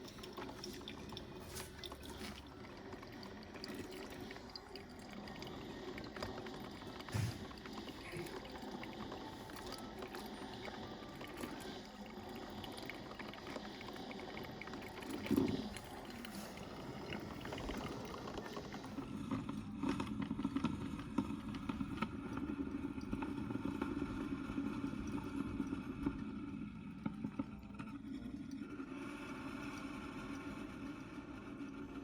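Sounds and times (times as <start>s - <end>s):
coffee maker humming: 0.0s - 32.0s.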